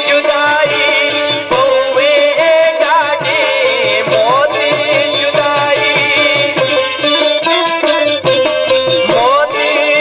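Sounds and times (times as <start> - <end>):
harmonium and keyed zither melody: 0.0 - 10.0
steady drum beat: 0.0 - 10.0.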